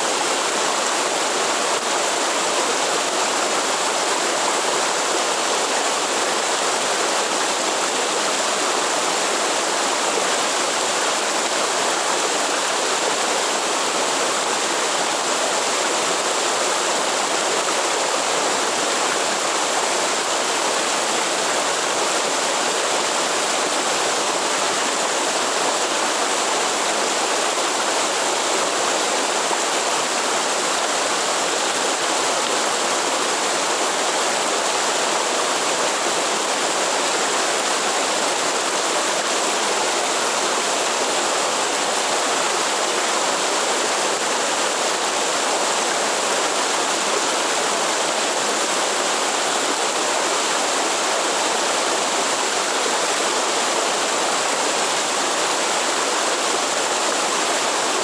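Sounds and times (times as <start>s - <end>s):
waterfall and rushing stream: 0.0s - 58.0s.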